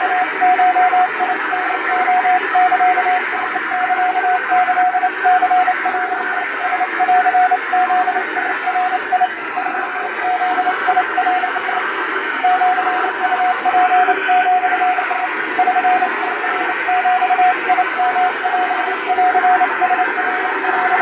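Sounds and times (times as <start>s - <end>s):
morse code tone: 0.0s - 11.8s, 12.4s - 21.0s.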